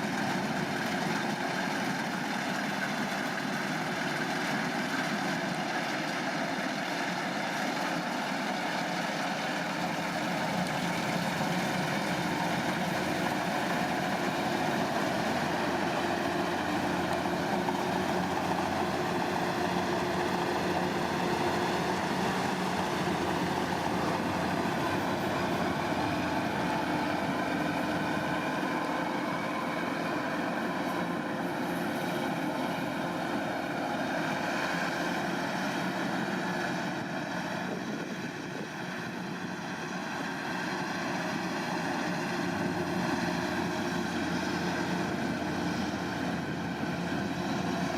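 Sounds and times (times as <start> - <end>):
combine harvester droning: 0.0 - 47.9.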